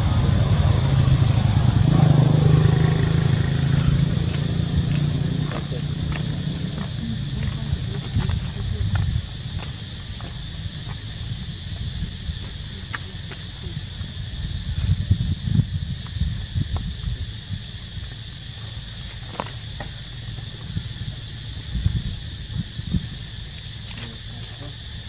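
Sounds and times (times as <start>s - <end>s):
high-pitched insect drone: 0.0s - 25.0s
wind rumble on microphone: 0.0s - 25.0s.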